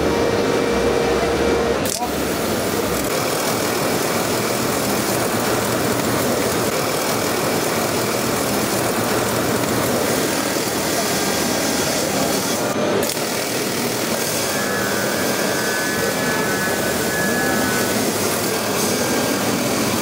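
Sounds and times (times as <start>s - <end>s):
laser cutter hissing: 1.9s - 20.0s.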